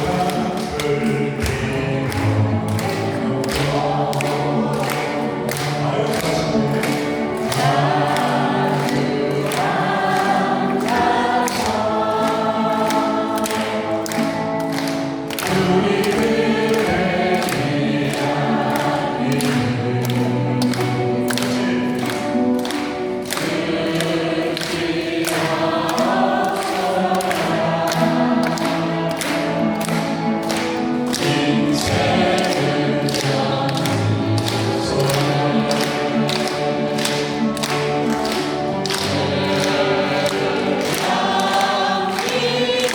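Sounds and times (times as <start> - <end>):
men singing in harmony: 0.0 - 42.9.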